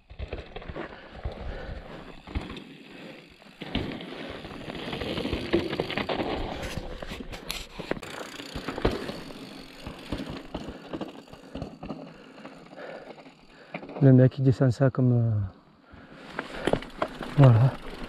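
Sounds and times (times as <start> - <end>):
bike rattling and knocking: 0.0 - 14.2, 16.3 - 18.0.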